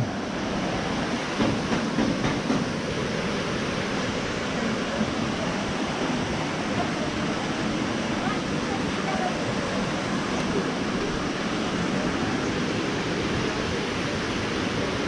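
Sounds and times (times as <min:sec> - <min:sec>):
flowing falling water: 0:00.0 - 0:15.0.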